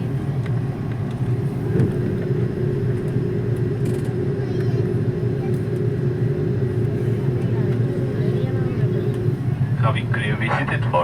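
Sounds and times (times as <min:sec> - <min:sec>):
aircraft cabin engine hum: 0:00.0 - 0:11.0.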